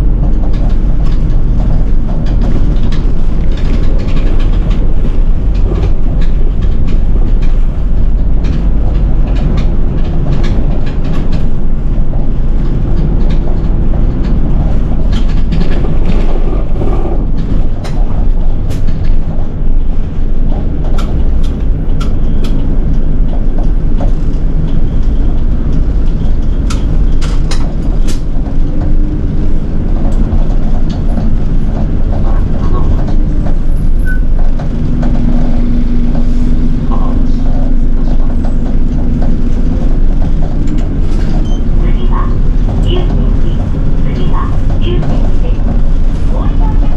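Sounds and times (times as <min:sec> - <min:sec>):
bus engine rumble: 0:00.0 - 0:46.9
road noise: 0:00.0 - 0:46.9.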